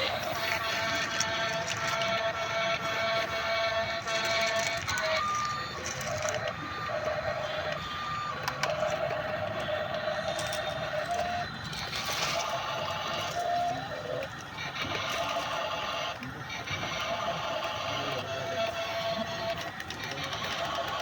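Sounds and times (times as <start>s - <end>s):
toy gear motors whining: 0.0s - 21.0s.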